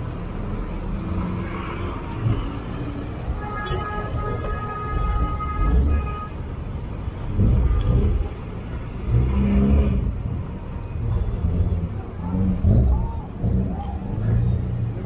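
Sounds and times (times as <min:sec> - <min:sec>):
car engines in traffic: 0:00.0 - 0:15.0.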